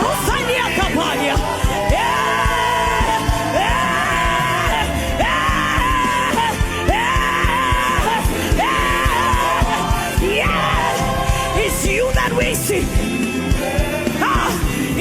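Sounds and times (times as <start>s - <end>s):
drums: 0.0s - 15.0s
gospel worship music: 0.0s - 15.0s.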